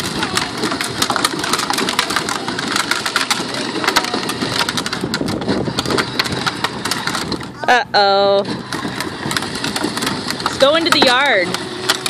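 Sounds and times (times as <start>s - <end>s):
plastic toy wheels rattling on pavement: 0.0s - 12.0s.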